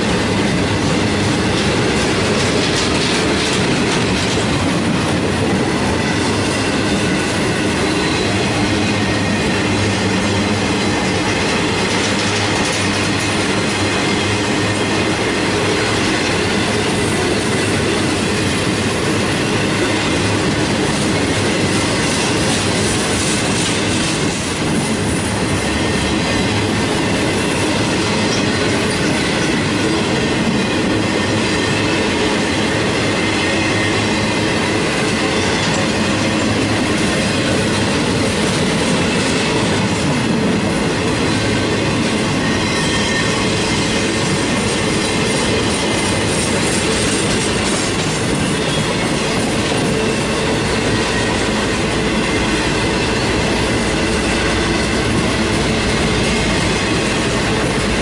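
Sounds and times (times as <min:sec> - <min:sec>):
steel wheels running on track: 0:00.0 - 0:58.0.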